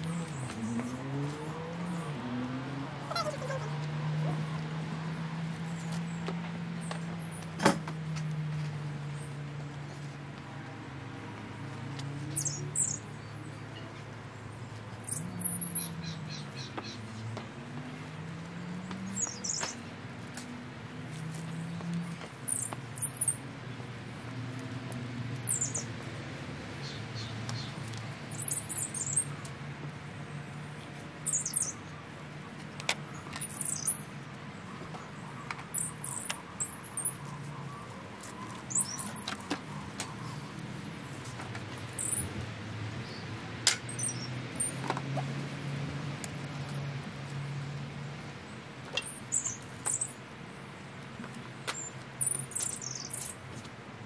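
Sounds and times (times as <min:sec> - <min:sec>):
birds chirping: 0:00.0 - 0:53.7.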